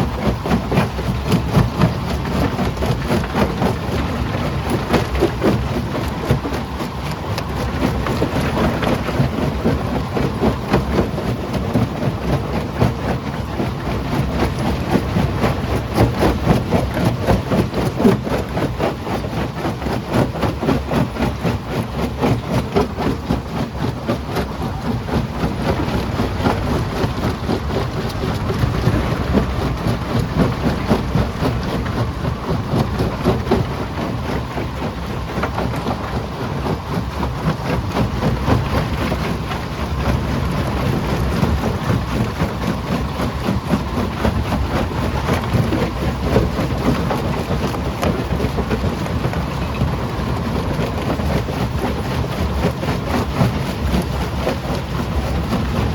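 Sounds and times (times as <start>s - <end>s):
rock crusher rumbling: 0.0s - 55.9s.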